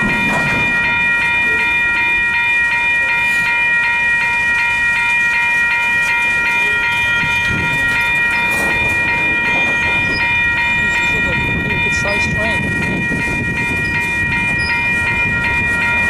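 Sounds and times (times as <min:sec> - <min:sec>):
rail clicks: 0:00.0 - 0:16.0
ringing high tones: 0:00.0 - 0:16.0
train wheels rumbling: 0:00.0 - 0:16.0.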